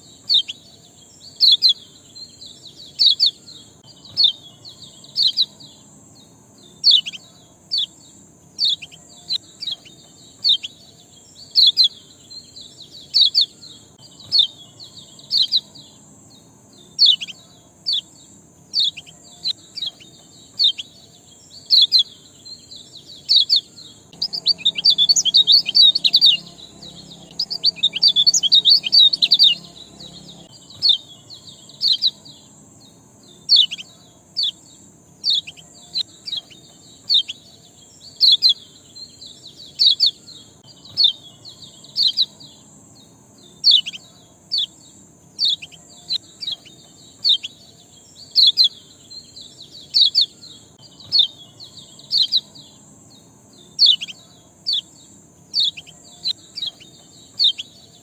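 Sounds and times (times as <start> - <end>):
small songbird chirping: 0.0 - 58.0.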